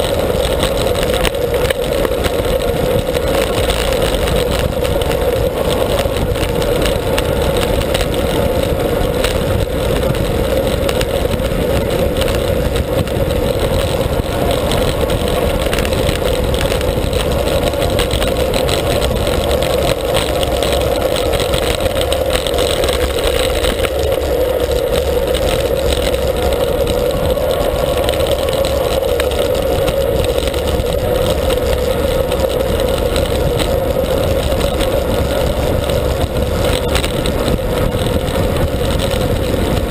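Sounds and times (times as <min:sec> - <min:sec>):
low rumble: 0:00.0 - 0:39.9
wind buffeting microphone: 0:00.0 - 0:39.9.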